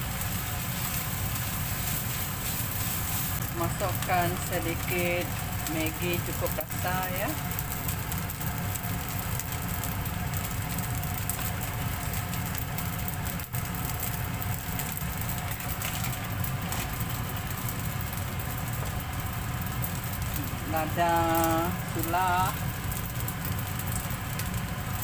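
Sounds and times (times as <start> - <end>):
low motor hum: 0.0 - 25.0
rice frying in a pan: 0.0 - 25.0.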